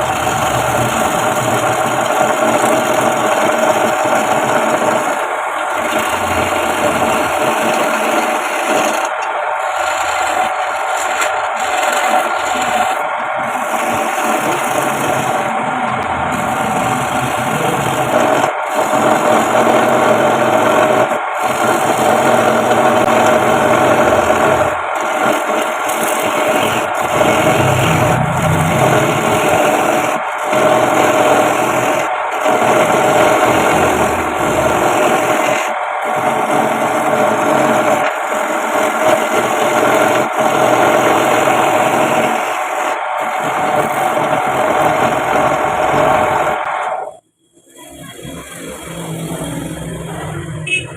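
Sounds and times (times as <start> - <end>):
lathe tool scraping wood: 0.0 - 46.7
lathe motor hum: 0.0 - 47.2.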